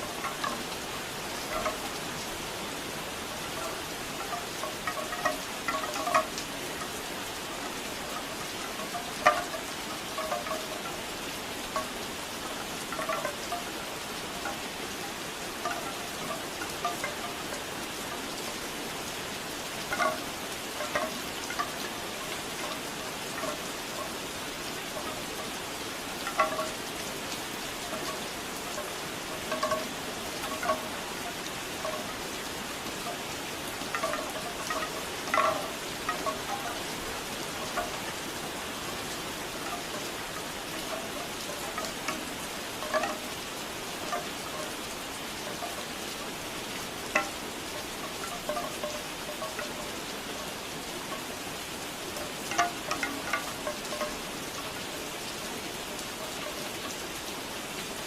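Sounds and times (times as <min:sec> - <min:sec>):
bamboo wind chimes knocking: 0:00.0 - 0:57.8
steady rain: 0:00.0 - 0:58.0.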